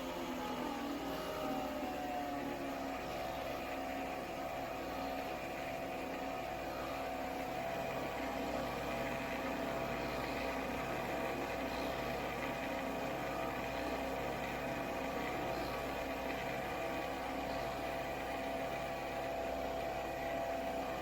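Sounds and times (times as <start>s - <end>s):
coffee machine whirring hum: 0.0s - 21.0s.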